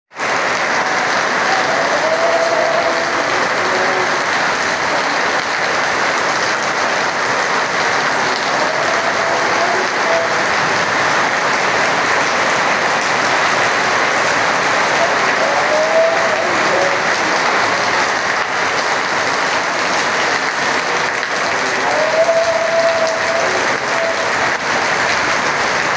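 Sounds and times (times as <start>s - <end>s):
heavy rain falling: 0.1s - 25.9s.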